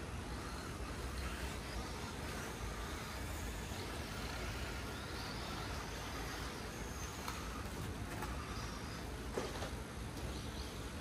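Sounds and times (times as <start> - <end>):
electric rc cars whining: 0.0 - 11.0.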